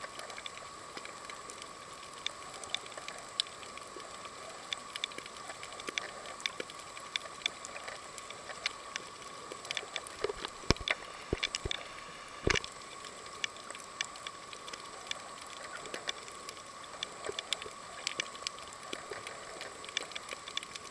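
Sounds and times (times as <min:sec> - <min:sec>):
steady underwater hum: 0:00.0 - 0:20.9
underwater clicks and crackles: 0:00.0 - 0:20.9.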